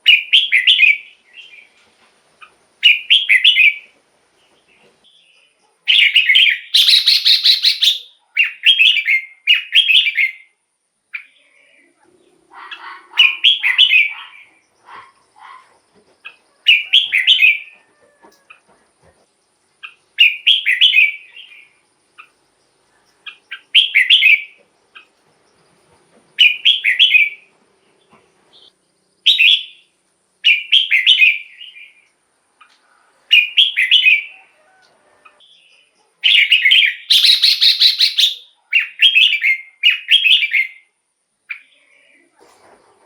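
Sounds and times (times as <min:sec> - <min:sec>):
bird singing warbled phrases: 0:00.0 - 0:01.8, 0:02.4 - 0:03.9, 0:04.5 - 0:17.8, 0:19.7 - 0:25.6, 0:26.3 - 0:34.6, 0:35.3 - 0:42.4.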